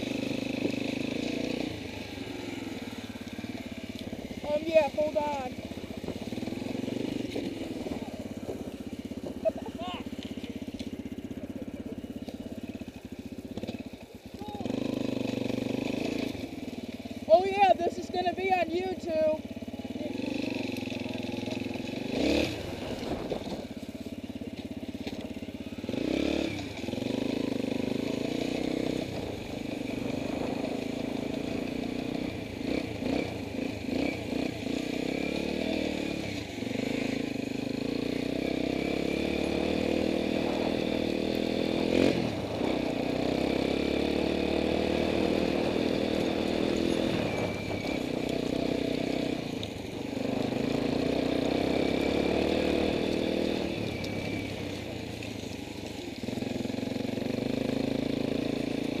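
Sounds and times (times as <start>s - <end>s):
dirt bike engine with throttle blips: 0.0s - 59.0s.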